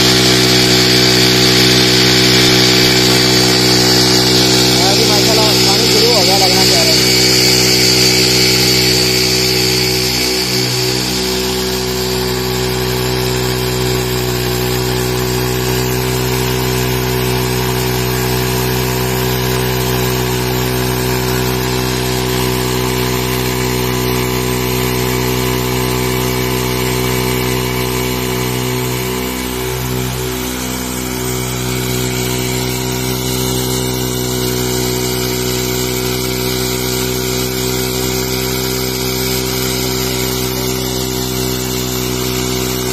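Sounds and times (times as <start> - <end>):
motorcycle engine running steadily: 0.0 - 42.9
water gushing into a tank: 0.0 - 42.9.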